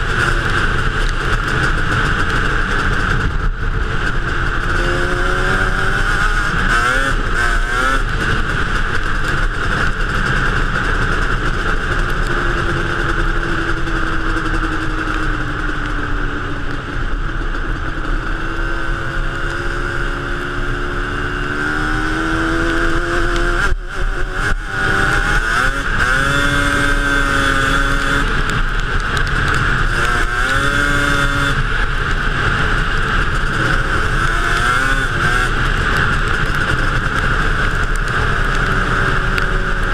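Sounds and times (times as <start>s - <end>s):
atv two-stroke engine revving: 0.0s - 39.9s.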